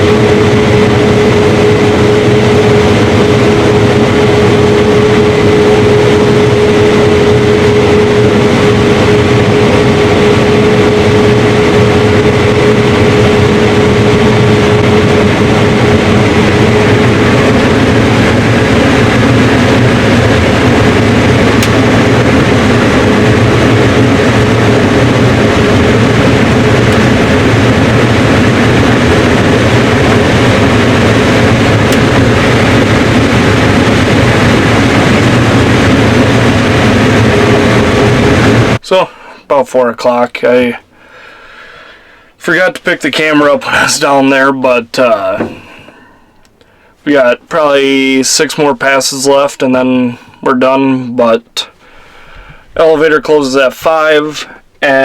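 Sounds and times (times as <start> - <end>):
combine harvester engine drone: 0.0 - 55.0
steady whining tone: 0.0 - 55.0.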